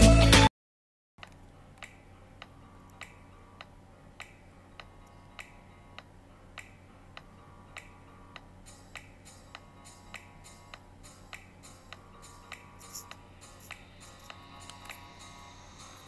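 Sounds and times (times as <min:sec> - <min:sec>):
low steady hum: 0:01.2 - 0:16.0.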